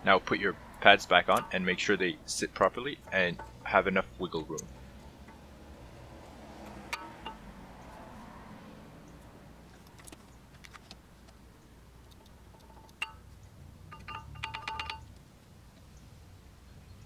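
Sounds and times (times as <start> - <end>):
brake pads clinking on metal clips: 0.0 - 16.1.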